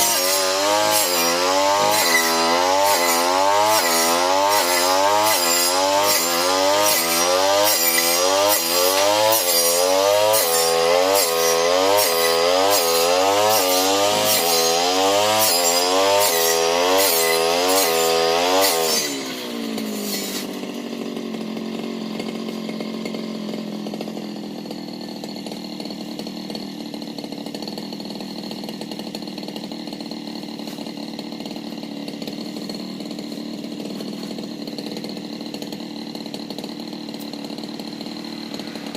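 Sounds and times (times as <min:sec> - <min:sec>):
brush cutter engine revving: 0:00.0 - 0:38.9.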